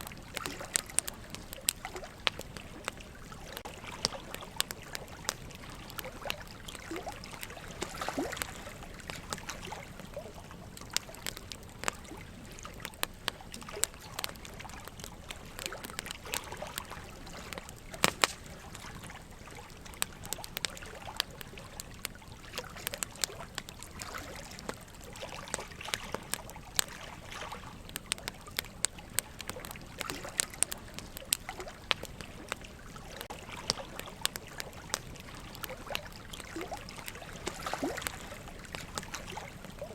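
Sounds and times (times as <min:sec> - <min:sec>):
running water trickling: 0:00.0 - 0:39.9
wood fire crackling: 0:00.0 - 0:39.9.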